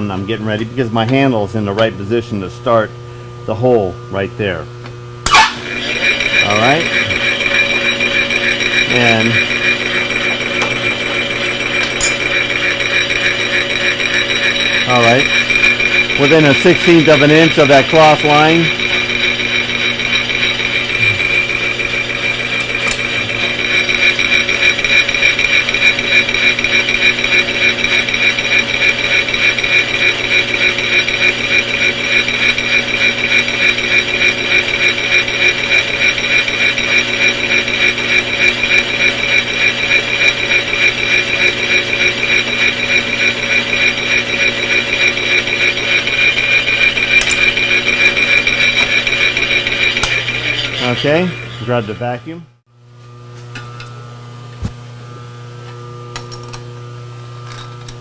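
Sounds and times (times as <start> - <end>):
drill spindle whining: 5.3 - 52.6.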